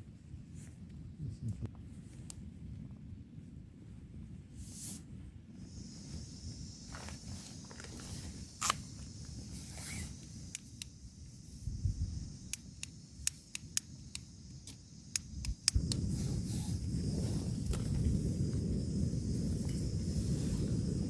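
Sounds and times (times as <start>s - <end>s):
low rumble of wind and rain: 0.0s - 21.0s.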